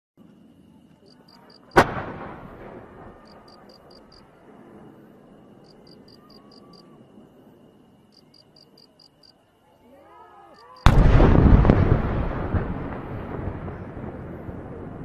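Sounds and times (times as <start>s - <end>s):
crickets chirping: 0.2s - 15.0s.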